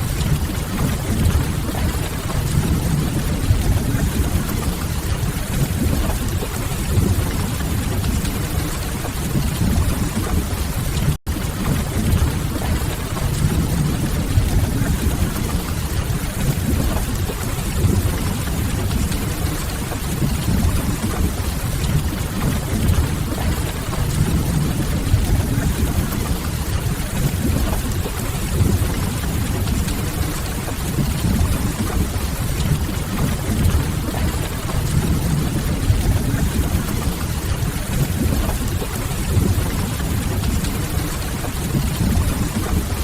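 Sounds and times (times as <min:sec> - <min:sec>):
steady rain: 0:00.0 - 0:43.0
strong low rumble: 0:00.0 - 0:43.0.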